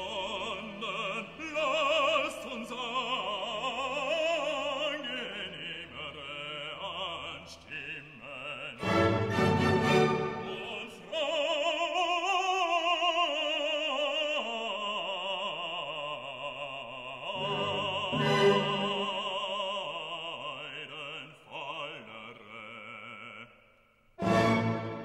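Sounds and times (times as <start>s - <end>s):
operatic singing with vibrato: 0.0s - 23.6s, 24.2s - 25.0s.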